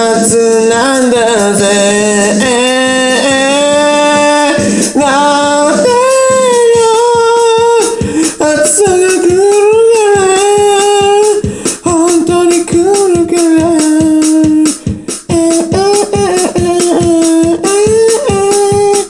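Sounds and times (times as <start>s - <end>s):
electronic keyboard drum rhythm: 0.0s - 19.0s
man singing long held notes: 0.0s - 19.0s.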